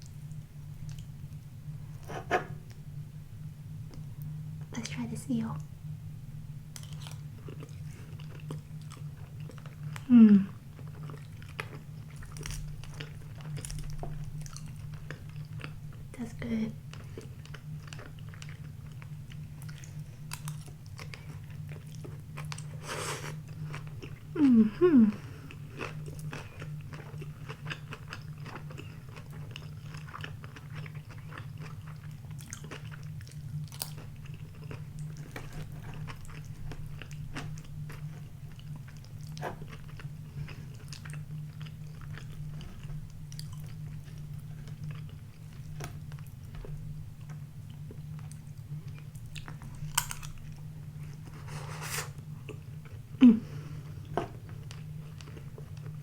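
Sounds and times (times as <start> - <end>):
chewing and crunching food: 0.0 - 2.8, 6.6 - 56.0
steady low hum: 0.0 - 56.0.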